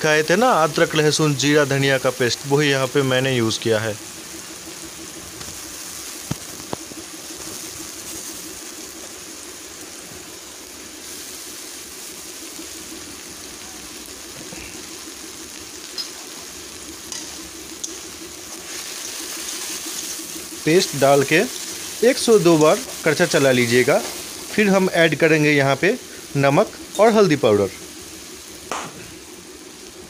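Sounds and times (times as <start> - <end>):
paste sizzling in hot oil: 0.0 - 30.0.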